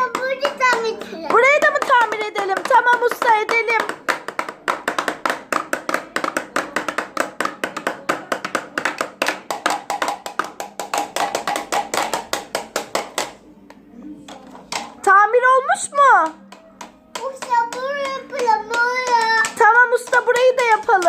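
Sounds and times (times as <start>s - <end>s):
rapid tapping on toy: 0.0s - 13.4s, 16.2s - 21.0s.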